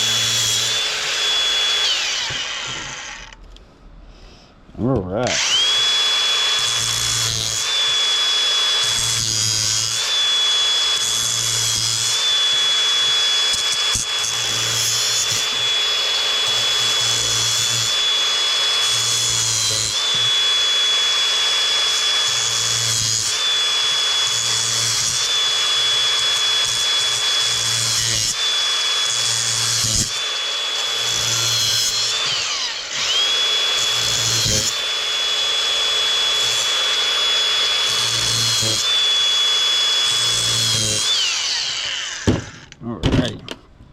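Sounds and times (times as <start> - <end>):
power drill motor whine: 0.0 - 3.4, 5.2 - 42.8.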